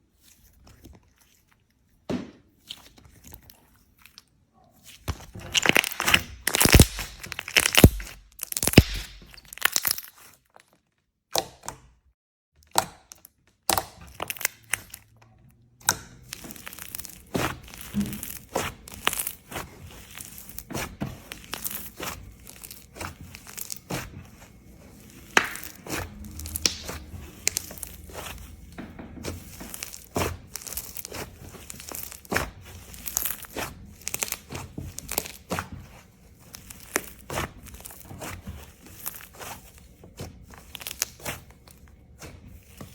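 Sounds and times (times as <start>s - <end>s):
slime crackling and popping: 5.0s - 10.7s, 12.6s - 15.2s, 15.8s - 28.6s, 29.2s - 42.9s.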